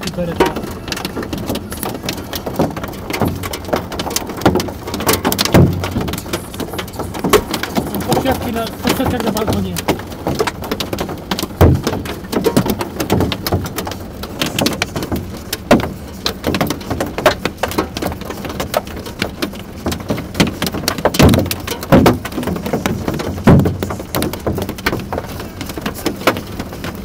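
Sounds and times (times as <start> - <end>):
hailstones striking hard surfaces: 0.0 - 27.0
steady rain hiss: 0.0 - 27.0.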